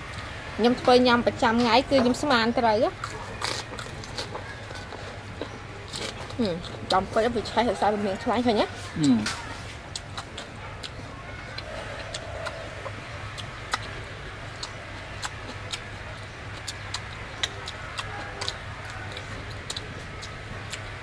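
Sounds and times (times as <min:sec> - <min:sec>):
chewing and mouth sounds: 0:02.9 - 0:21.0.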